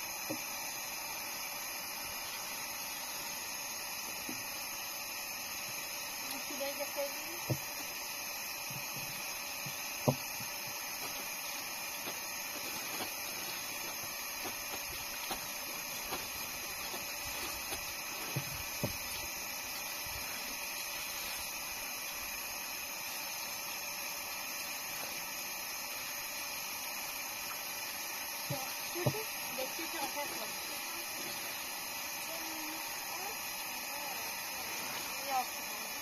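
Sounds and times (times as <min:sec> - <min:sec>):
steady hiss: 0:00.0 - 0:36.0.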